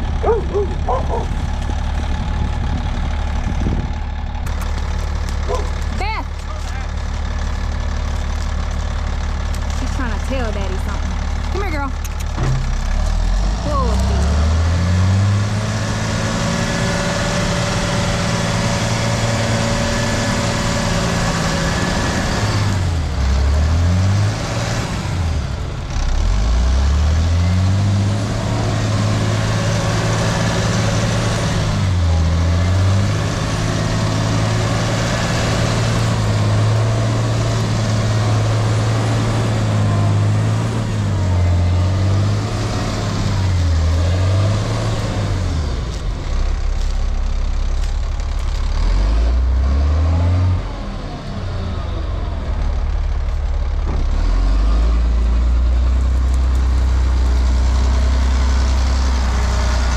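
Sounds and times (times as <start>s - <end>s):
truck engine working hard: 0.0s - 59.9s.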